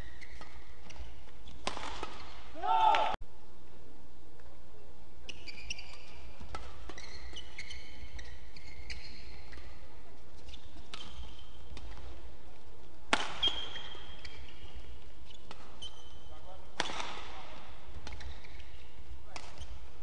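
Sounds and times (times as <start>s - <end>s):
shoes squeaking on court: 0.0s - 2.5s, 5.2s - 12.3s, 13.2s - 20.0s.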